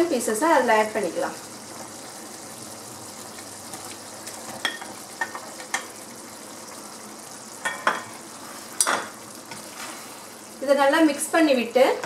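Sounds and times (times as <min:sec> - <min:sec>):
gravy simmering with hiss: 0:00.0 - 0:12.0.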